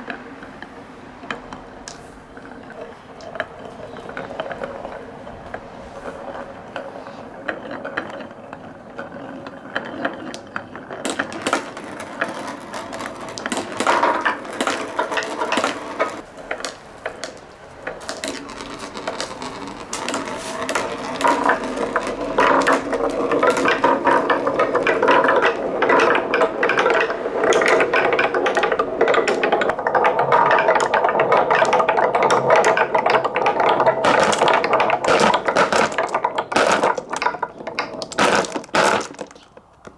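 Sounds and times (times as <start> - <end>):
marbles clacking down wooden run: 0.0 - 39.9.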